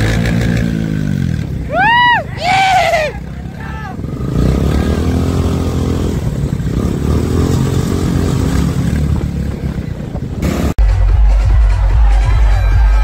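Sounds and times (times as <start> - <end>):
motorcycle engines revving: 0.0 - 10.8.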